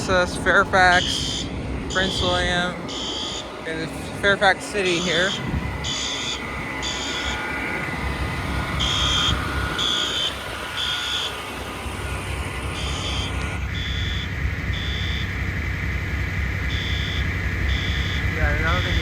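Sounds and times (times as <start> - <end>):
fire alarm horns buzzing: 0.0 - 19.0
vehicle engine rumble: 0.0 - 19.0.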